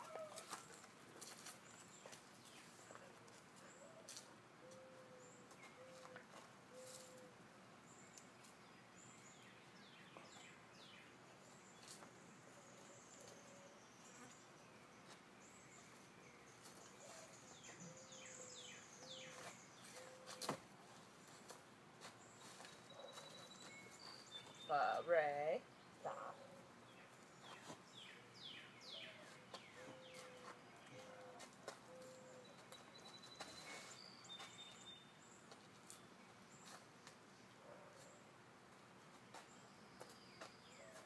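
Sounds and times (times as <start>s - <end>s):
birds chirping: 0.0s - 38.3s.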